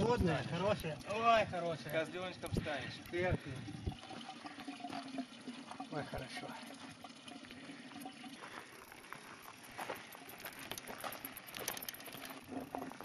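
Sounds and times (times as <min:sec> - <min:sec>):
water splashing into stone basin: 0:00.0 - 0:13.0.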